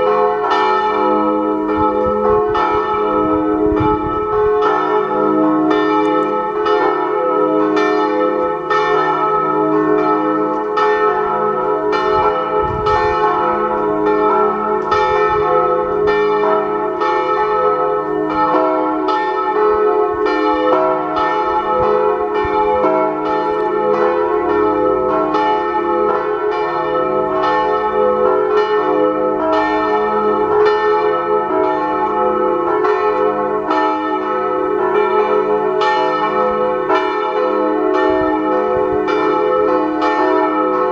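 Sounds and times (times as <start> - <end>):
church bells ringing a peal: 0.0 - 40.9.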